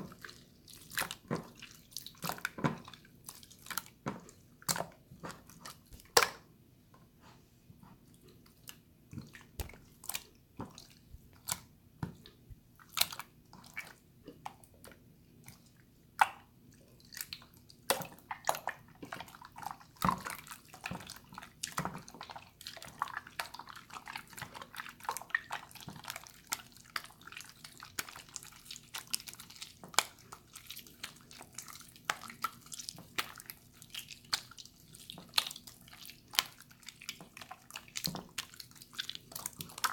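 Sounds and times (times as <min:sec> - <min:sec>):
slime squelching by hand: 0:00.0 - 0:06.5, 0:07.8 - 0:39.9.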